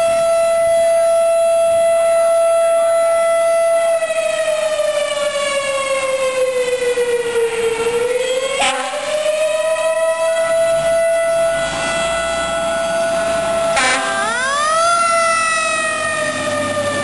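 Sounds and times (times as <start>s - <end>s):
fire engine siren wailing: 0.0s - 17.0s.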